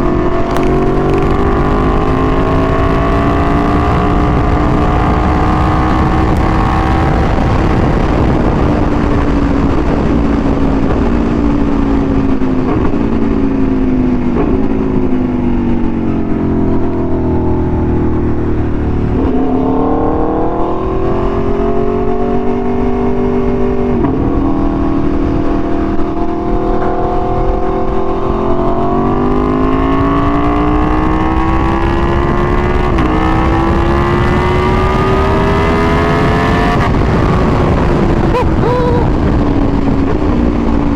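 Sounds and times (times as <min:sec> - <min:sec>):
motorcycle engine under way: 0:00.0 - 0:40.9.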